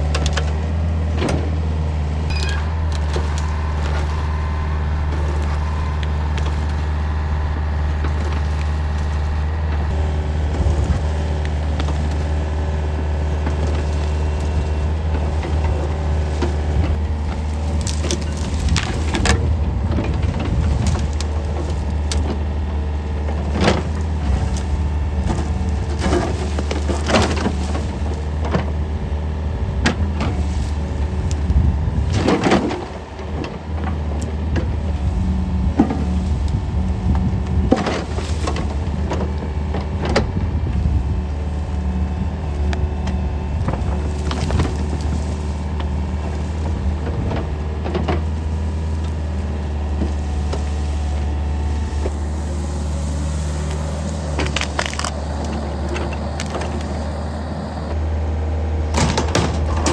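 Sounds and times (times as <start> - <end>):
wood cracking and splintering: 0.0 - 58.0, 58.9 - 59.9
excavator diesel engine running: 0.0 - 59.9.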